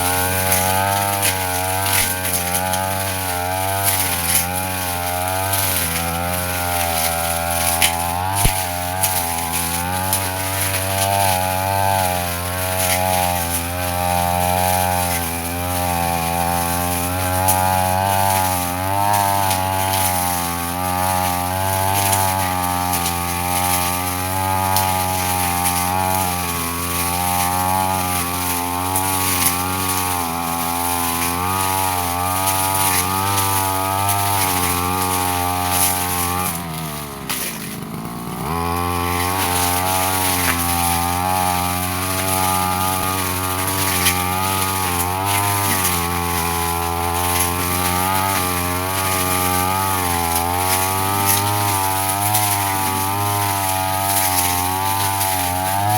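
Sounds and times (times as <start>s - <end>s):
brush cutter engine under load: 0.0s - 55.9s.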